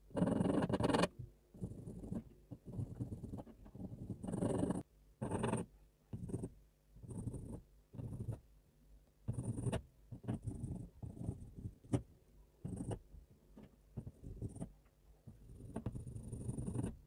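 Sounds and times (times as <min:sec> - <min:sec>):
pencil scratching on paper: 0:00.0 - 0:08.5, 0:09.3 - 0:13.1, 0:14.0 - 0:17.0.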